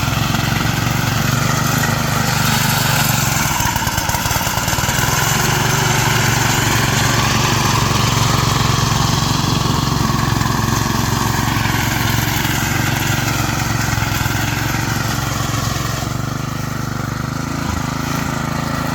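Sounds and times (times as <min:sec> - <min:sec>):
small engine running: 0:00.0 - 0:18.9.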